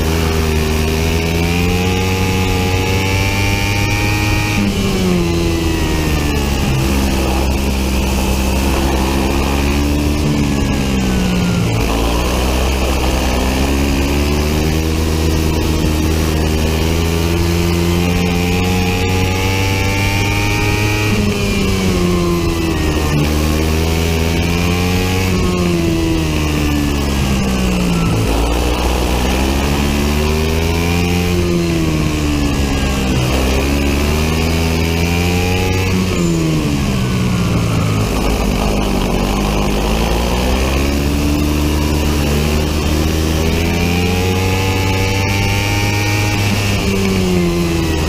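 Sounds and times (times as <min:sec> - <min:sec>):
kart engine revving: 0:00.0 - 0:48.0.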